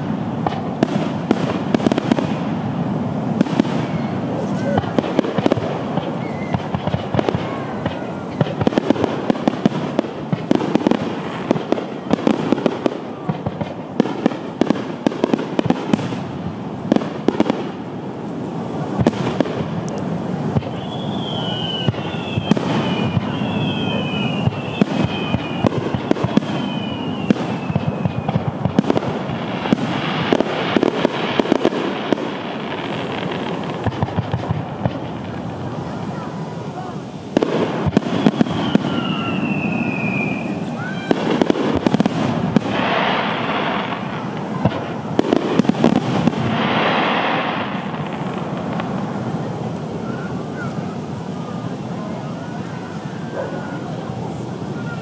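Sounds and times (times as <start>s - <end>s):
fireworks bursting and crackling: 0.0s - 55.0s
fireworks whistles: 0.0s - 55.0s.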